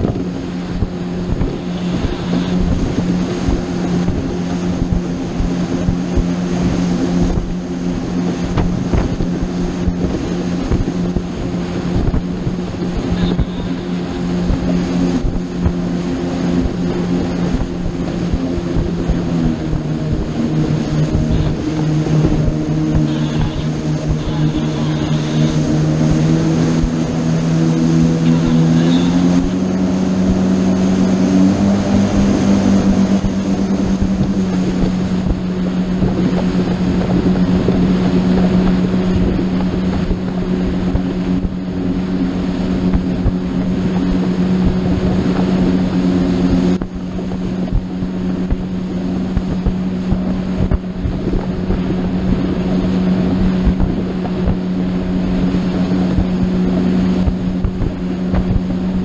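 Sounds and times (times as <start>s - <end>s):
motorboat engine running: 0.0s - 59.0s
water rushing past hull: 0.0s - 59.0s
wind on microphone: 0.0s - 59.0s.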